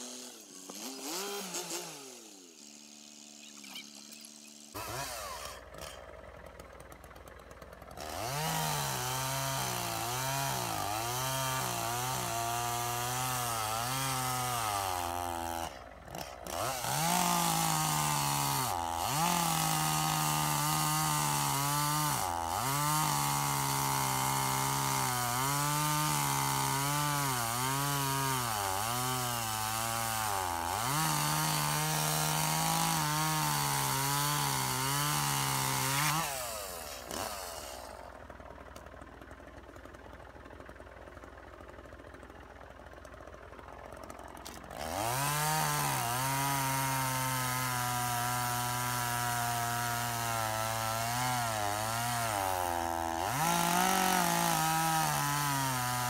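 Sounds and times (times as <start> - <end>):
chainsaw cutting through a log: 0.0 - 56.0.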